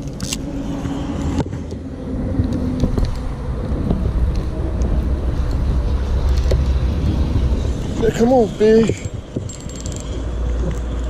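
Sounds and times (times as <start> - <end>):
highway traffic rumble: 0.0 - 11.0.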